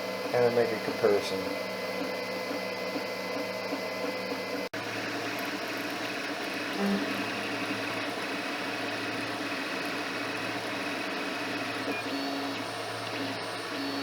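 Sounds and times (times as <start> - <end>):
fan hum: 0.0 - 14.0
stepper motors whirring: 0.2 - 14.0.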